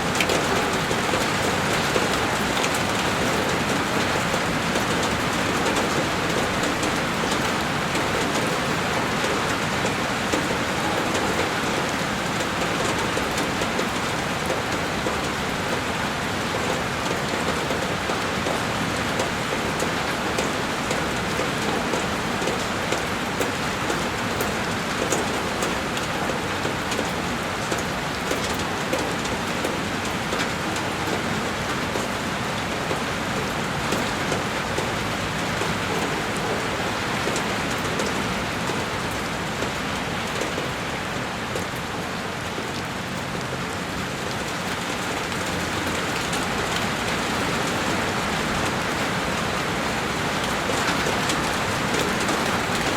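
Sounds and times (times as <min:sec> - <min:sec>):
heavy rain on window glass: 0:00.0 - 0:52.9.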